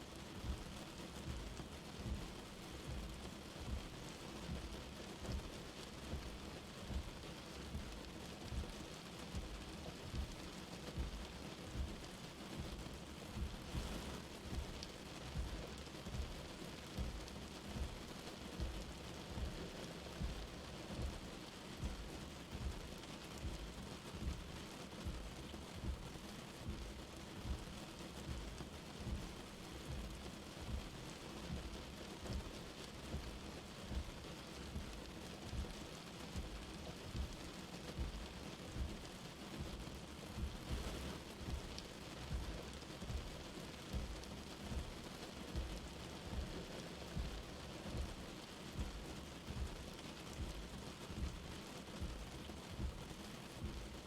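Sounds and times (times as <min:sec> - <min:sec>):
light rain hissing: 0:00.0 - 0:54.0
dull low thuds: 0:00.4 - 0:54.0.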